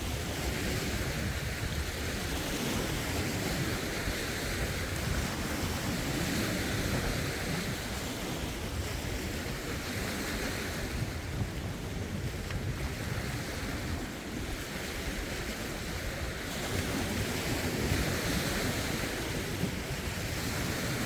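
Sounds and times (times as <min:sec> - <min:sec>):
waves lapping over rocks: 0:00.0 - 0:21.0
wind rumbling on microphone: 0:00.0 - 0:21.0.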